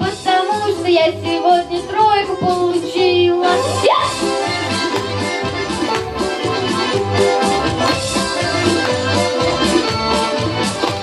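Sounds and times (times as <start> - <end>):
lively accordion tune: 0.0 - 11.0
bass and chord beat: 1.8 - 11.0.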